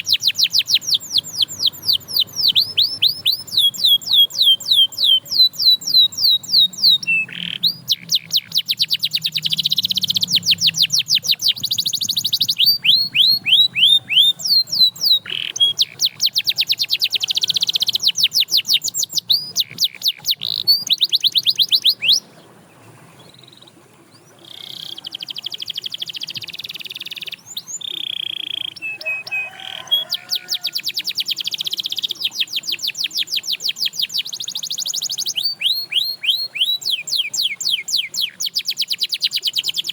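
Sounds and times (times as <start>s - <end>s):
canary singing trills: 0.0s - 22.4s, 23.2s - 39.9s.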